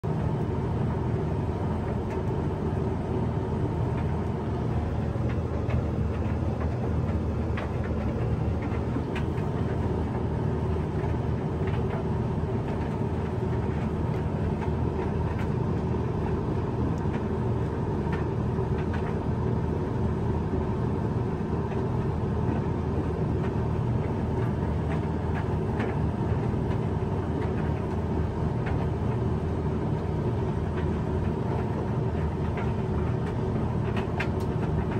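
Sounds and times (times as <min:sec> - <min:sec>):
dryer motor and drum rumble: 0:00.0 - 0:34.9.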